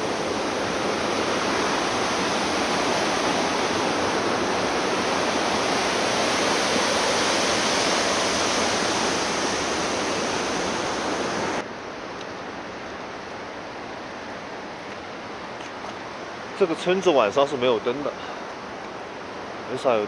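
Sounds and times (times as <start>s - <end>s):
quiet outdoor background: 0.0s - 20.0s
river rushing over rocks: 0.0s - 20.0s.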